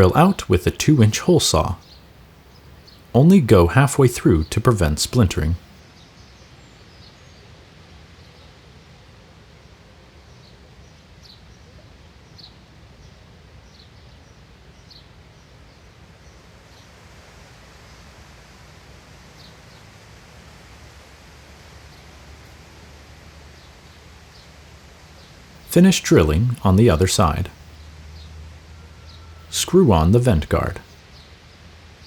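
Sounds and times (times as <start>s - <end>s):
low outdoor hiss and hum: 0.0s - 32.0s.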